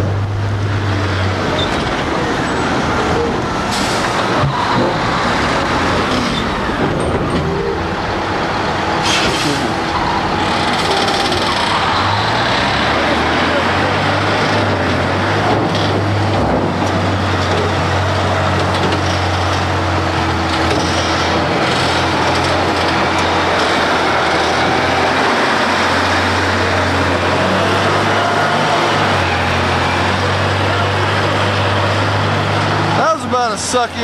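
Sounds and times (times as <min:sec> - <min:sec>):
heavy diesel engine droning: 0:00.0 - 0:34.0
loud rush of noise: 0:00.0 - 0:34.0.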